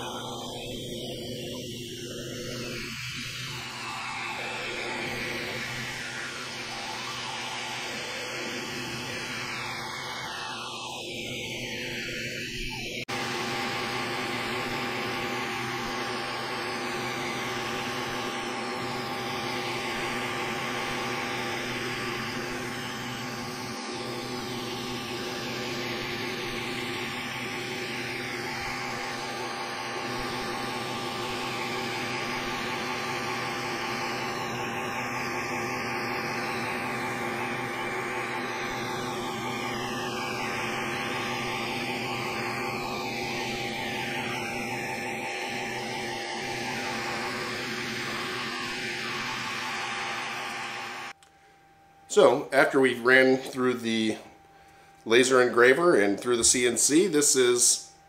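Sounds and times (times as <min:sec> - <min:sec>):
laser engraver air rush: 0:00.0 - 0:51.2
engraver hum: 0:00.0 - 0:58.0.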